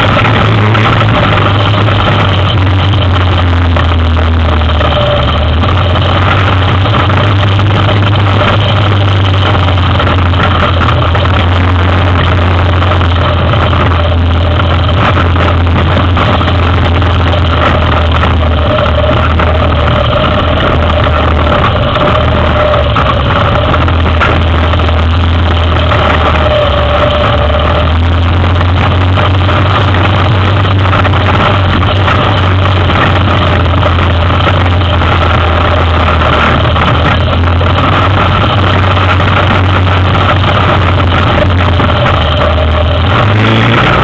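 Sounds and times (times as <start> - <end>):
atv engine running: 0.0 - 44.0
water churning around wheels: 0.0 - 44.0.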